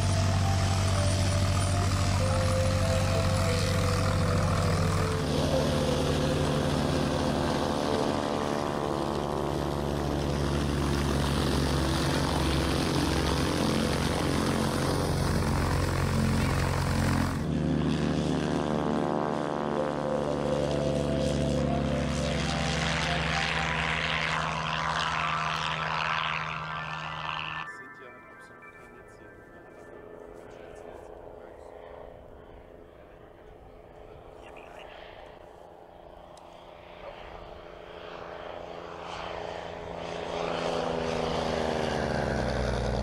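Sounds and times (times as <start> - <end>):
propeller plane engine: 0.0 - 28.0, 28.6 - 43.0.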